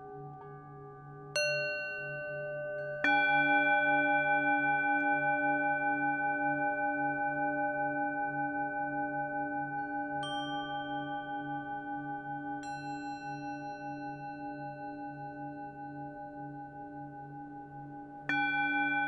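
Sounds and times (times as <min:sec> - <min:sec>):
singing bowls ringing: 0:01.3 - 0:19.0.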